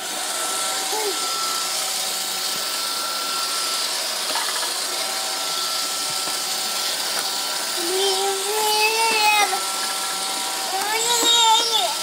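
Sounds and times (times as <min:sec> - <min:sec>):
robot vacuum whining hiss: 0:00.0 - 0:12.0.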